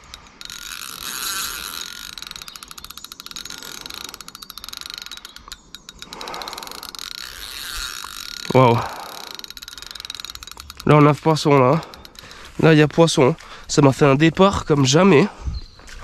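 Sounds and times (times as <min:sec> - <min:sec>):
fishing reel drag clicking: 0:00.0 - 0:13.8.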